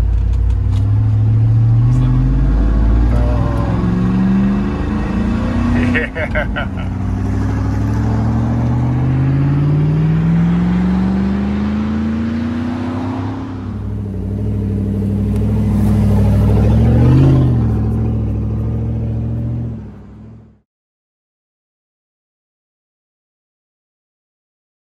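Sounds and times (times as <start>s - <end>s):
v eight exhaust accelerating: 0.0s - 20.6s.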